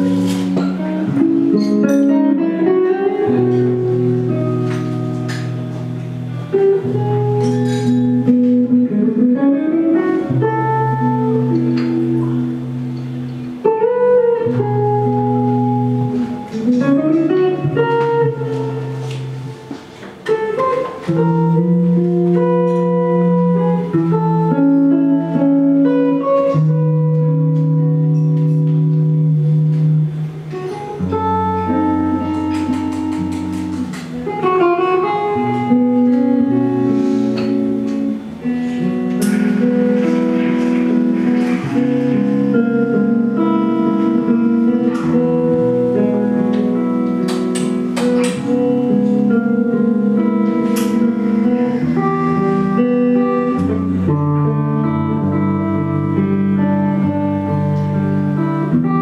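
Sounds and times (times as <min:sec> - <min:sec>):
held bass notes: 0:00.0 - 0:59.0
plucked guitar melody: 0:00.0 - 0:59.0.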